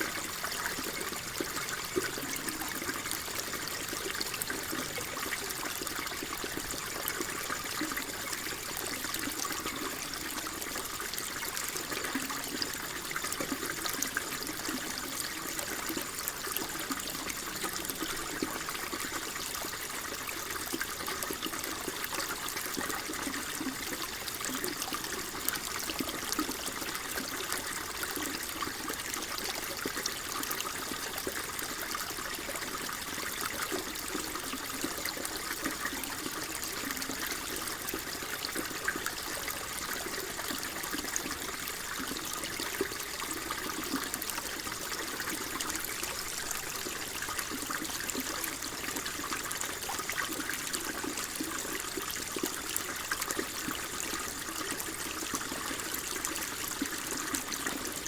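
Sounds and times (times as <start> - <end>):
water flowing and trickling: 0.0 - 58.0.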